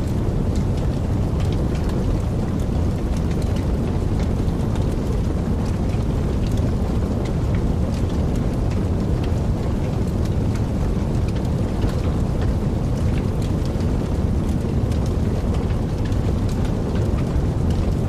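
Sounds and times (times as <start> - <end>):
fire flames rumbling: 0.0 - 18.0
wood fire crackling: 0.0 - 18.0.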